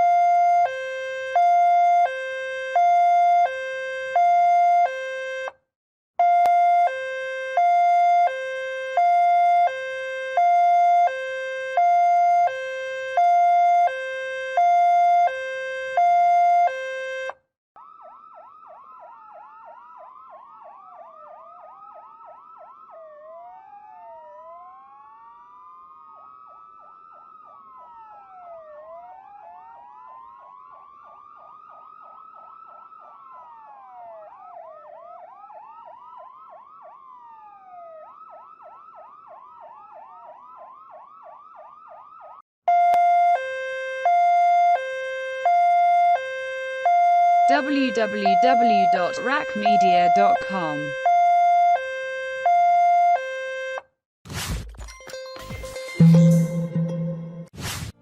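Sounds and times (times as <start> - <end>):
two-tone ambulance siren: 0.0 - 54.0
electronic yelping wailing siren: 6.2 - 30.8, 32.0 - 53.8.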